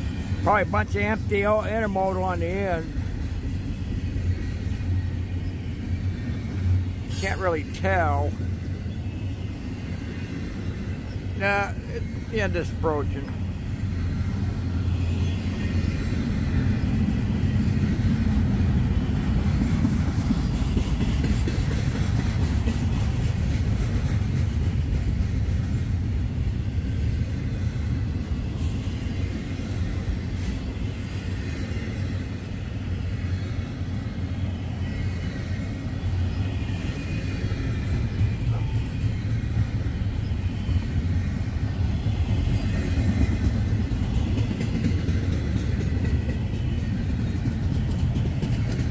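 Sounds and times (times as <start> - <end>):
freight train wheels rumbling: 0.0 - 48.9.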